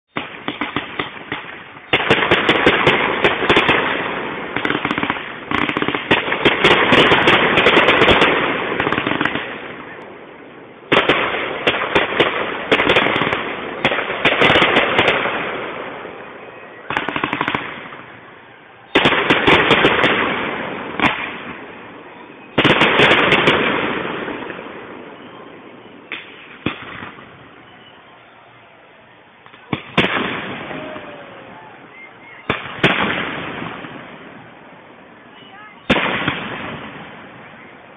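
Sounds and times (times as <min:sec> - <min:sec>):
rapid firework crackling: 0:00.1 - 0:25.3, 0:26.0 - 0:27.8, 0:29.1 - 0:37.8
firework bursts: 0:00.1 - 0:37.9.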